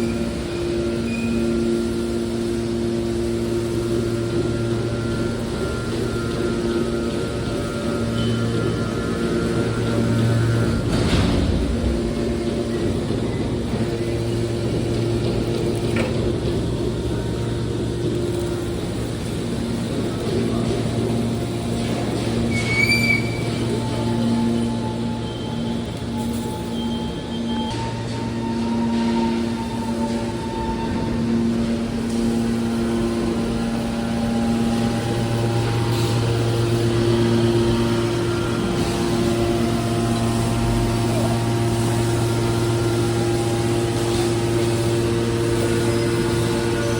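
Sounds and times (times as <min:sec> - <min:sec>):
hydraulic baler humming: 0:00.0 - 0:46.9.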